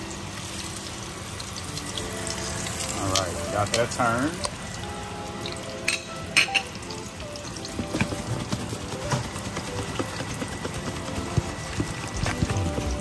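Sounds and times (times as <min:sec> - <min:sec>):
frying oil sizzling and popping: 0:00.0 - 0:13.0
background music: 0:00.4 - 0:13.0.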